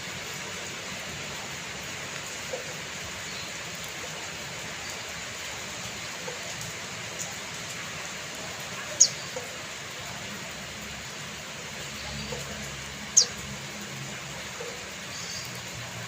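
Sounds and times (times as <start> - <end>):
rain hiss: 0.0 - 16.0
small drips: 0.9 - 16.0.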